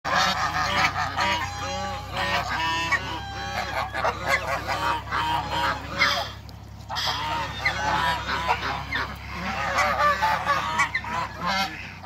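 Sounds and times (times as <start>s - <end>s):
geese honking: 0.1s - 12.0s.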